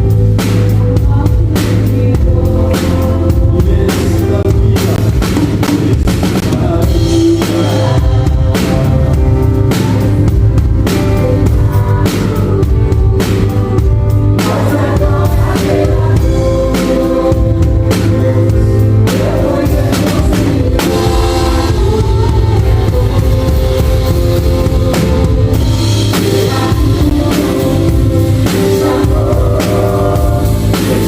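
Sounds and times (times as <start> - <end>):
drum kit playing: 0.0 - 31.0
song with singing: 0.0 - 31.0.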